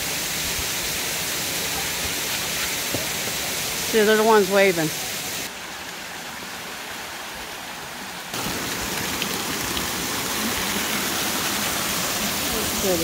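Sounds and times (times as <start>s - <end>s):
waterfall rushing over rock: 0.0s - 13.0s.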